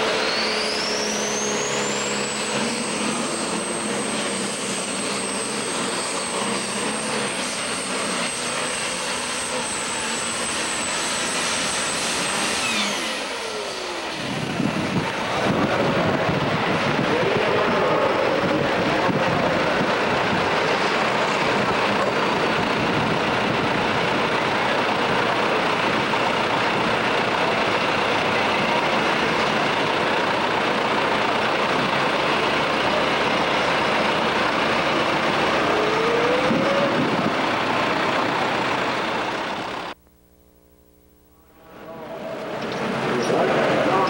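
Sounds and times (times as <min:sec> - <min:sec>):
tractor engine running loud: 0:00.0 - 0:40.0, 0:41.1 - 0:44.0.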